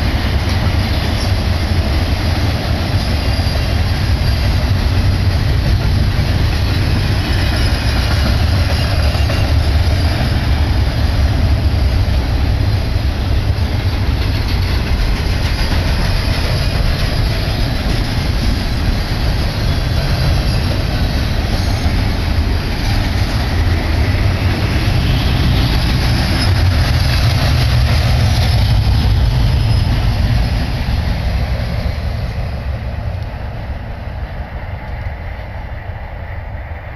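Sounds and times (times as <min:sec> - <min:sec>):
steel wheels clattering on rail: 0:00.0 - 0:36.7.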